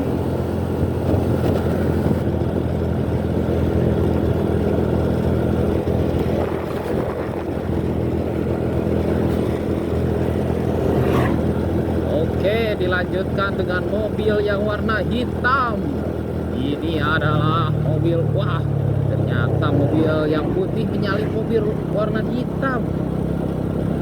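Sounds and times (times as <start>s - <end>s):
motorcycle engine running: 0.0s - 24.0s
road and traffic noise: 0.0s - 24.0s.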